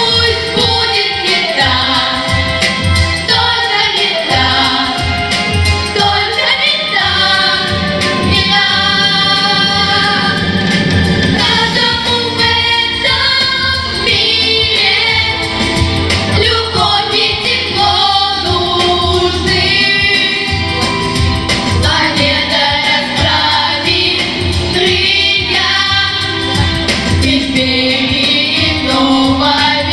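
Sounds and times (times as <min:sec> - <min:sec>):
instrumental backing with beat: 0:00.0 - 0:29.9
vocal group singing: 0:00.0 - 0:29.9.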